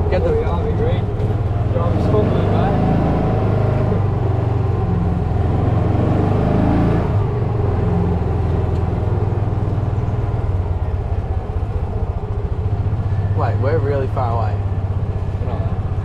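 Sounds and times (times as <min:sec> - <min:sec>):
utility vehicle engine revving: 0:00.0 - 0:16.0.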